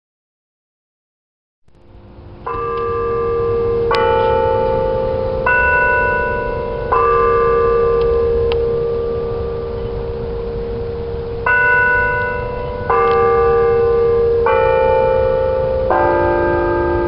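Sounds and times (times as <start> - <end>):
church bells ringing: 1.7 - 17.0.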